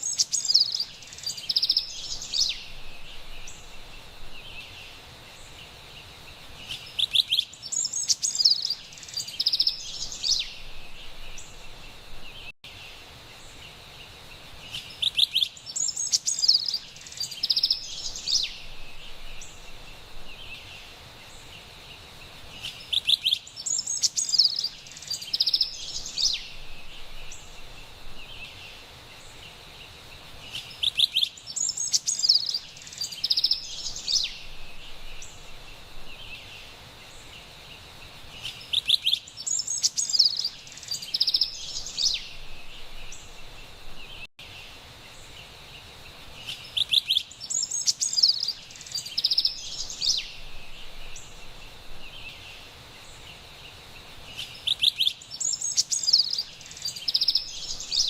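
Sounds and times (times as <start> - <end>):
wren chirping song: 0.0 - 12.6, 14.6 - 21.7, 22.4 - 29.5, 30.4 - 44.3, 46.4 - 58.0
high background hiss: 0.0 - 58.0.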